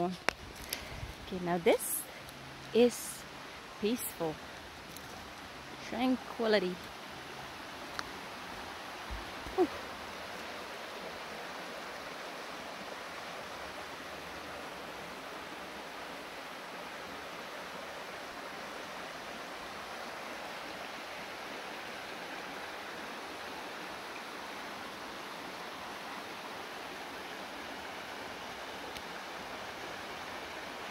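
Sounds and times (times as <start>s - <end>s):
river water rushing over stones: 0.0s - 30.9s.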